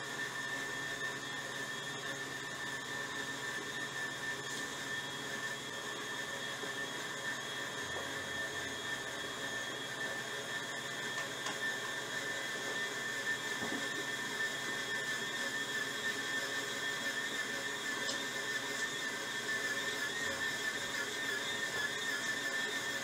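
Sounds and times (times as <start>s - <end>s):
stand mixer motor whining: 0.0s - 23.0s.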